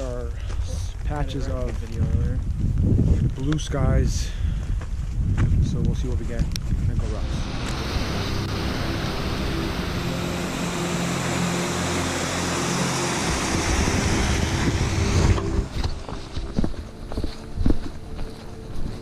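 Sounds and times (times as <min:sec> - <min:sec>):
strong wind blowing: 0:00.8 - 0:17.9.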